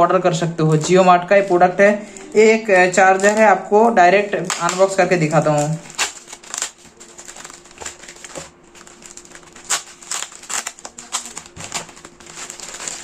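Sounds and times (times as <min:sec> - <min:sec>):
plastic bag crinkling and tearing: 0:02.2 - 0:13.0.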